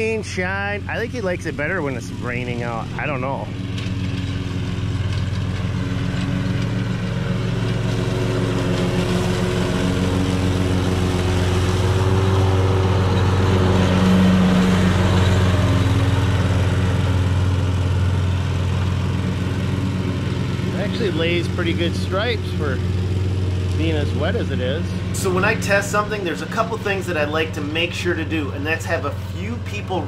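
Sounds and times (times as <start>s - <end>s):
riding mower running: 0.0s - 30.0s.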